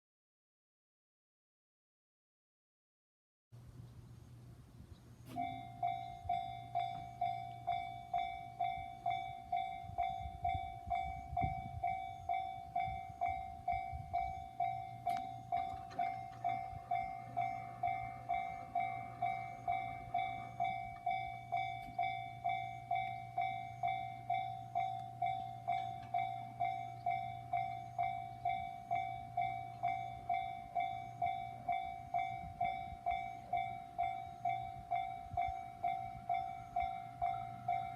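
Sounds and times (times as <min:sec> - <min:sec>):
electronic crossing bell pulsing: 0:05.3 - 0:37.9.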